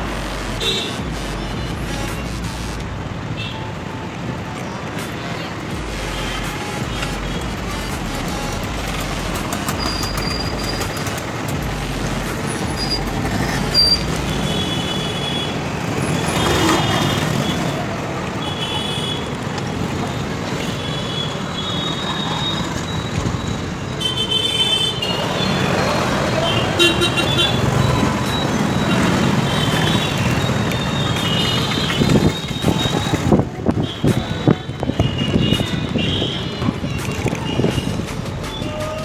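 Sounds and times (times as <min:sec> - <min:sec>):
vehicle horns beeping: 0:00.0 - 0:04.3, 0:05.0 - 0:39.0
road noise: 0:00.0 - 0:39.0.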